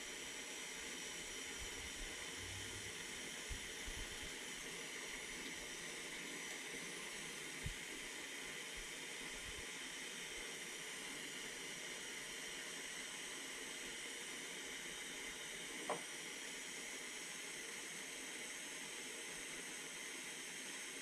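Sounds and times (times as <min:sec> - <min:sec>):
soldering iron gas hiss: 0:00.0 - 0:21.0.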